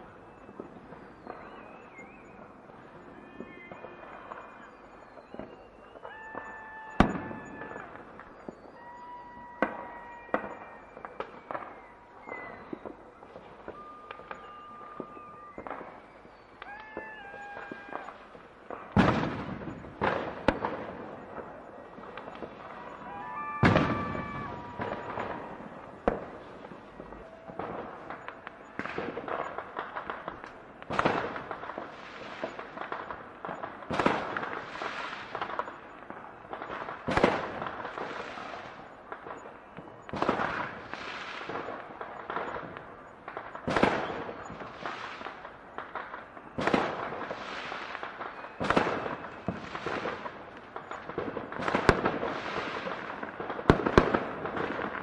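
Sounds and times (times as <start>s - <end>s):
fireworks banging: 0.0s - 55.0s
fireworks crackling: 0.0s - 55.0s.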